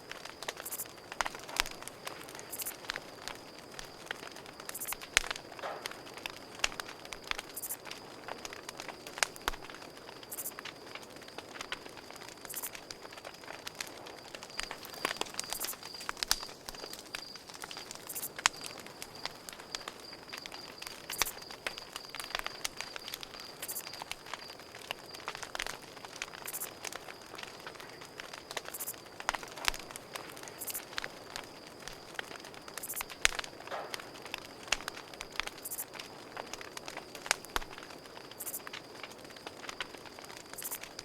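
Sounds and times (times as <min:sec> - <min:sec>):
campfire crackling: 0:00.0 - 0:41.0
cricket trill: 0:00.0 - 0:41.0.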